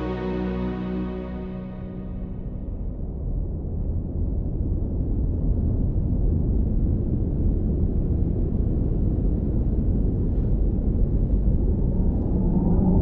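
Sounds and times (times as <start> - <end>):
wind rumbling rush: 2.2 - 13.0.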